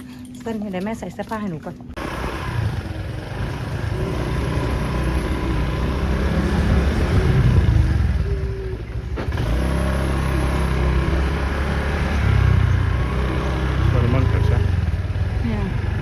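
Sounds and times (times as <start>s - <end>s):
road and wind noise: 1.3s - 16.0s
motorcycle engine running: 2.0s - 16.0s.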